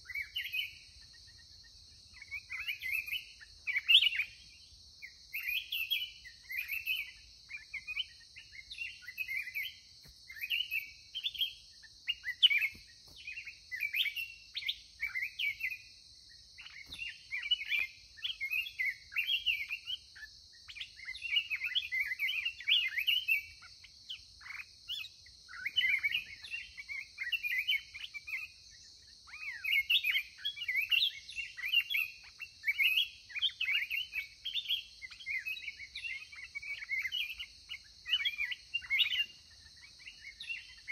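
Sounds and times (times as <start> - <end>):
birds chirping: 0.0 - 15.8, 16.4 - 40.9.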